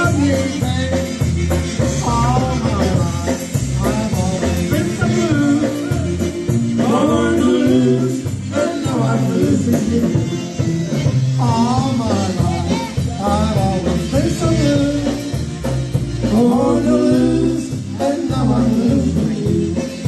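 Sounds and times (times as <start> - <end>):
live band music: 0.0 - 20.0
person singing lead melody: 0.0 - 20.0
pulsing bass line: 0.0 - 20.0.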